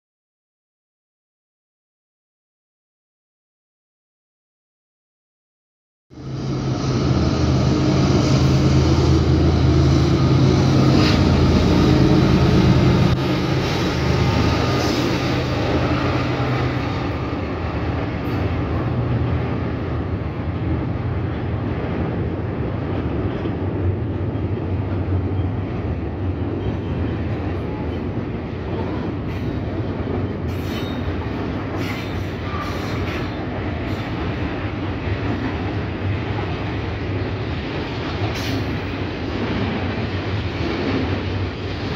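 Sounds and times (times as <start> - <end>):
diesel locomotive engine: 6.1 - 41.9
train wheels on rails: 6.2 - 41.9.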